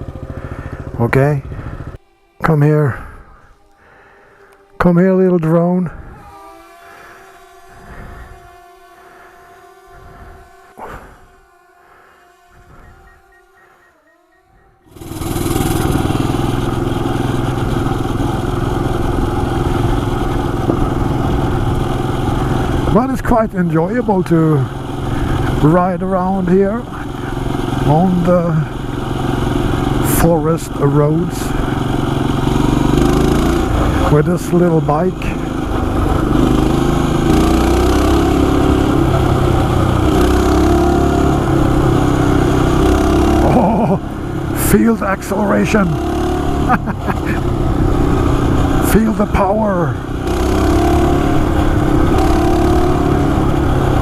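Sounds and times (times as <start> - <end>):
mini bike engine running: 0.0 - 54.0.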